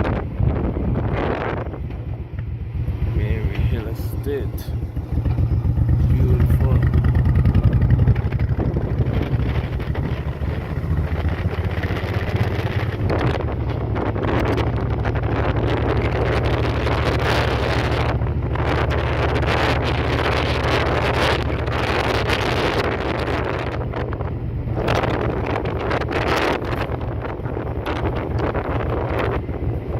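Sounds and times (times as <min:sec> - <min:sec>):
wind noise on microphone: 0:00.0 - 0:29.9
motorcycle engine running: 0:00.4 - 0:29.9.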